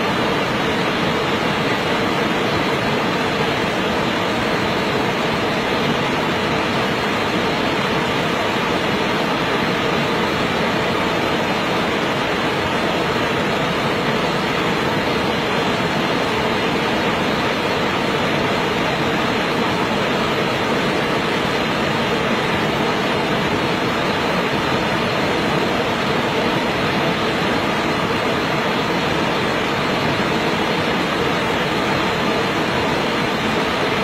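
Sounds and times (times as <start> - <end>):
loud steady rushing noise: 0.0 - 34.0.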